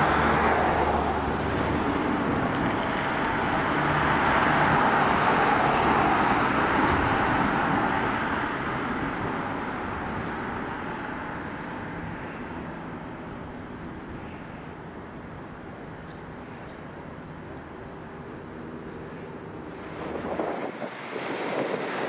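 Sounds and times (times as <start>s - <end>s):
vans driving past: 0.0s - 22.0s.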